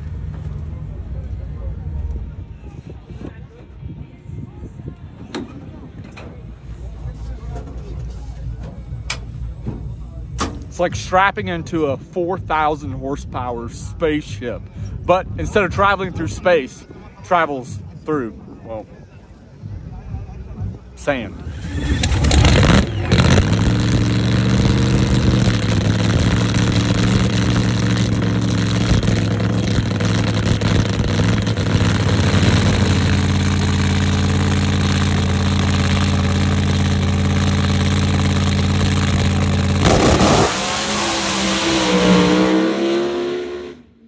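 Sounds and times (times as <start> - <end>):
drag car engine idling and revving: 0.0 - 17.0, 19.6 - 44.0.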